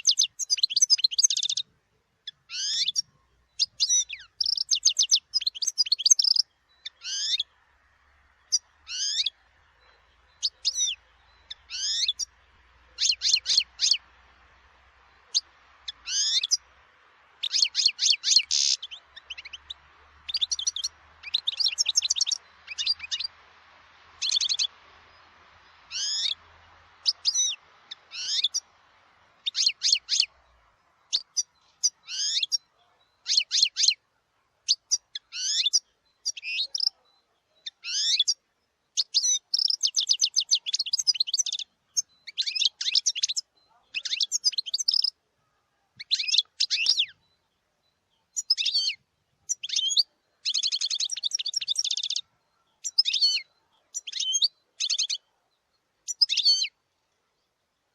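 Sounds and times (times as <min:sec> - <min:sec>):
goldfinch twittering song: 0:00.0 - 0:45.2, 0:46.0 - 0:57.9.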